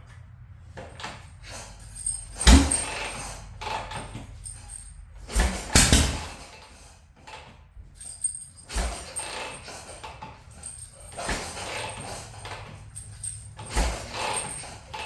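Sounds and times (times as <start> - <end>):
motorcycle kickstart clunk: 0.8 - 7.6, 8.6 - 15.0.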